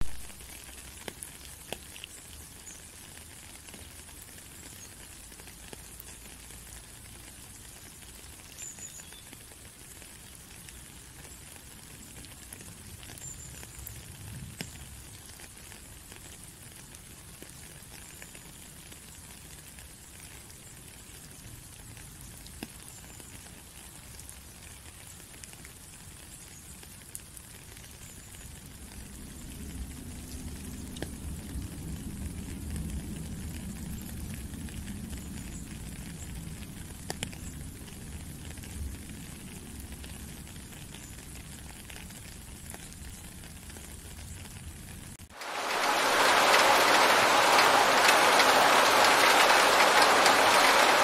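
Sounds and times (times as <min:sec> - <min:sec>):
rain on puddle and gravel: 0:00.0 - 0:51.0.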